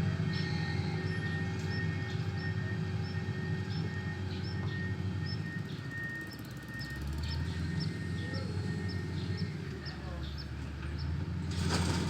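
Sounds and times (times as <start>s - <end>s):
heavy machine engine rumbling: 0.0s - 12.0s.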